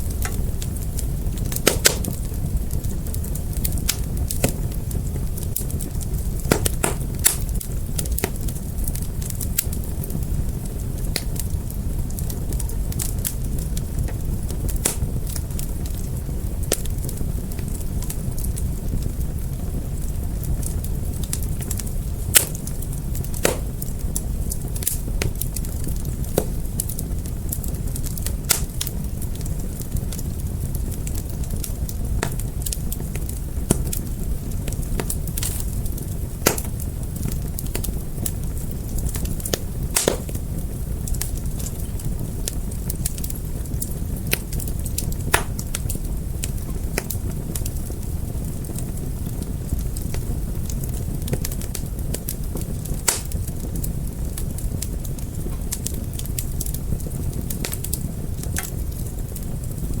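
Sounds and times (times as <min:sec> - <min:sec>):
low rumble of flames: 0:00.0 - 1:00.0
wood fire crackling: 0:00.0 - 1:00.0.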